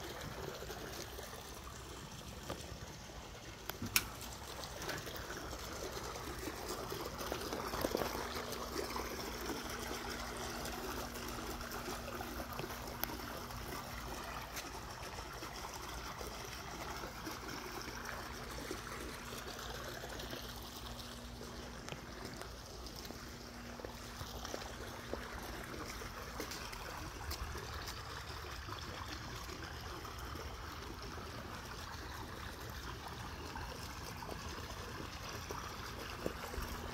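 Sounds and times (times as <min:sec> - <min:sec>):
low steady hum: 0:00.0 - 0:36.9
water trickling: 0:00.0 - 0:36.9.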